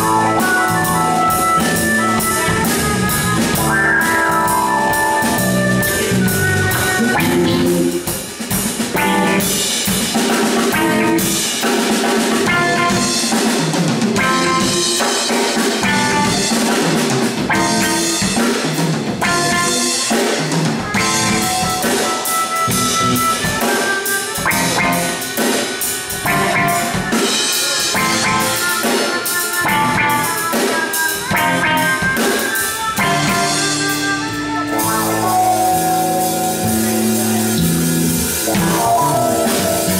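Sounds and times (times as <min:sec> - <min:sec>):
funk band playing: 0:00.0 - 0:39.9
steady drum beat: 0:00.0 - 0:39.9.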